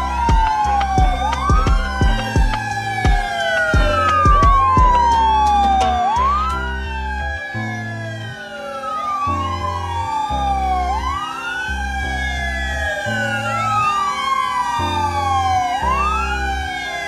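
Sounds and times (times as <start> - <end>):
background music with bass: 0.0 - 8.6, 9.2 - 17.0
fire truck sirens wailing: 0.0 - 17.0.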